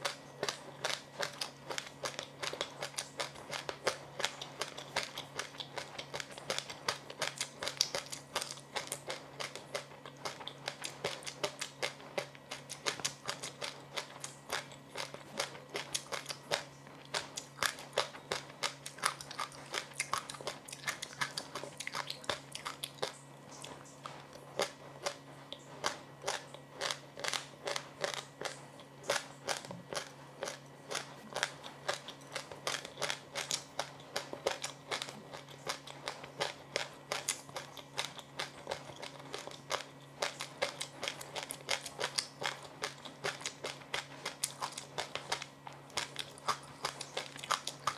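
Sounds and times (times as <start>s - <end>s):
person chewing crunchy food: 0.0s - 47.9s
steady low hum: 0.0s - 47.9s.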